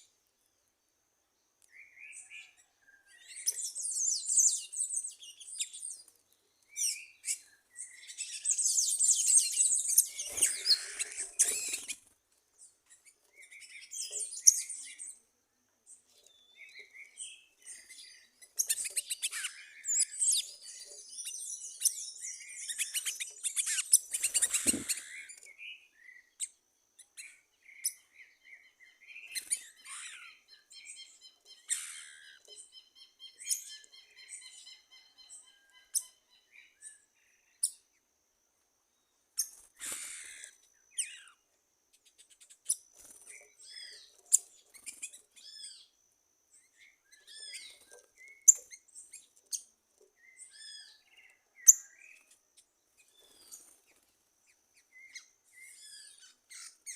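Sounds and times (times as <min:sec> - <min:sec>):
wild birds chirping and singing: 0:00.0 - 0:56.9.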